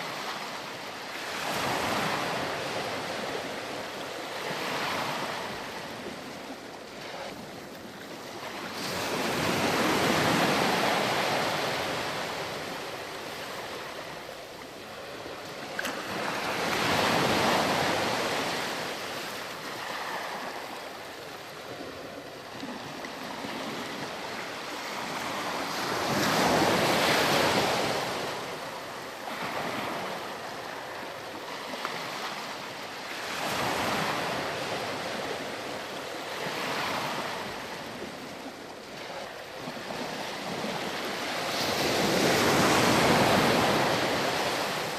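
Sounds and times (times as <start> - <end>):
ocean waves breaking on beach: 0.0 - 44.9.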